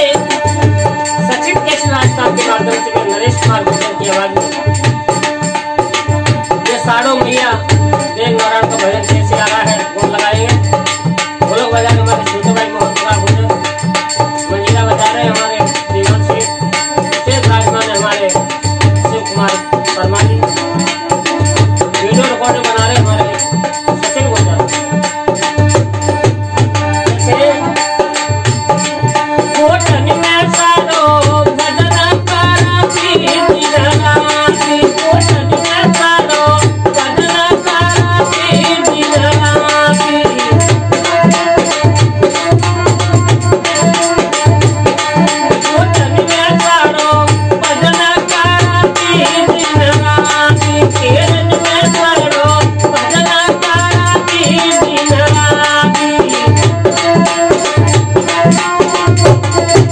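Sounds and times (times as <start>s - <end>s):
hand drum beat: 0.0s - 59.9s
harmonium melody: 0.0s - 59.9s
jingling percussion: 0.0s - 59.9s.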